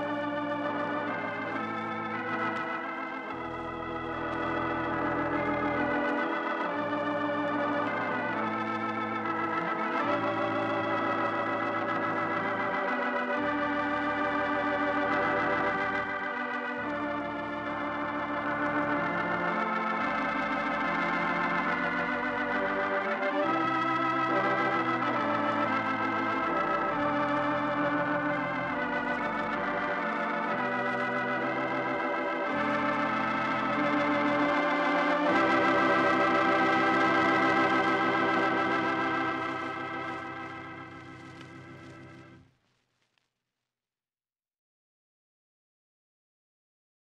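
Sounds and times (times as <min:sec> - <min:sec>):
organ bass notes: 0:00.0 - 0:42.4
organ chords: 0:00.0 - 0:42.5.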